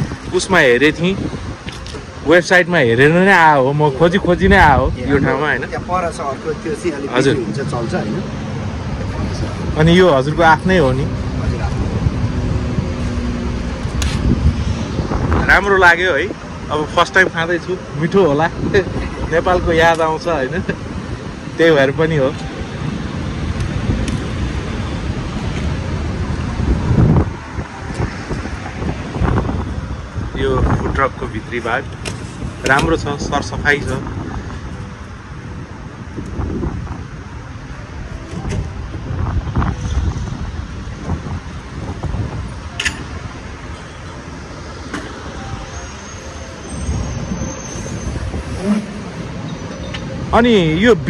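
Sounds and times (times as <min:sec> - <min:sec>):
wind buffeting microphone: 0:00.0 - 0:21.6, 0:22.2 - 0:45.7, 0:46.4 - 0:51.0
road traffic rumble: 0:00.0 - 0:51.0.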